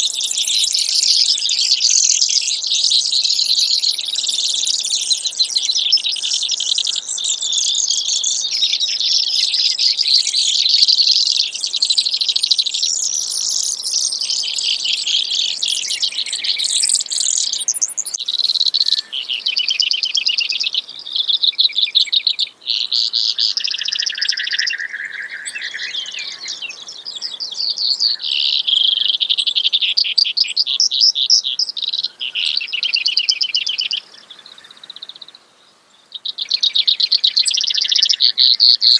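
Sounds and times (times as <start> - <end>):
sparrow singing high trills: 0.0 - 35.3, 36.0 - 38.9.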